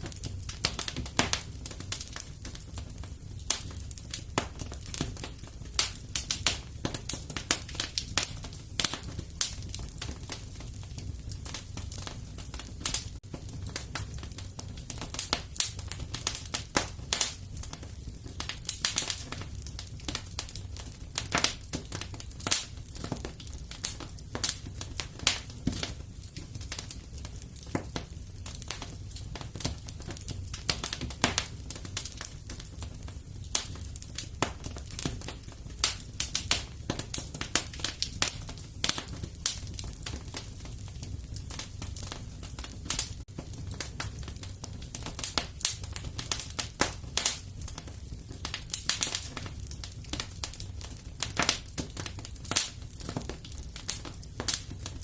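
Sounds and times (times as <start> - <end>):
low rumble of flame: 0.0 - 55.0
wood fire crackling in fireplace: 0.0 - 55.0.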